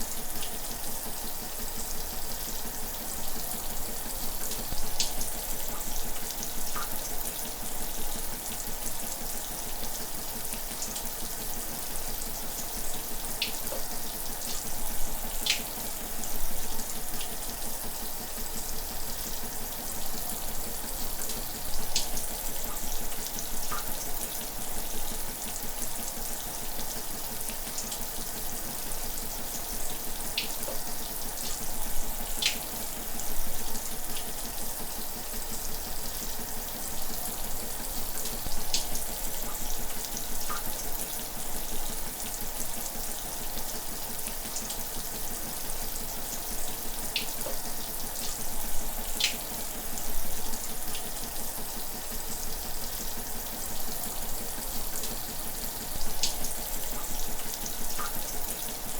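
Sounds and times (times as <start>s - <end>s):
shower running: 0.0s - 58.9s
water drips and splashes: 0.0s - 58.9s.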